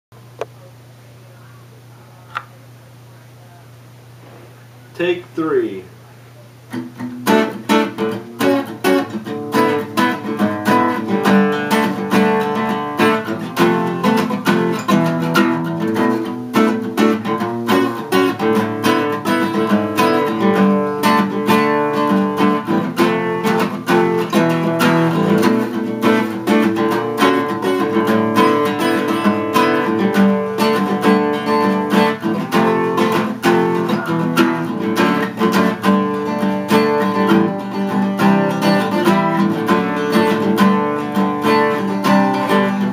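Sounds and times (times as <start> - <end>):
acoustic guitar strumming: 6.7 - 42.9.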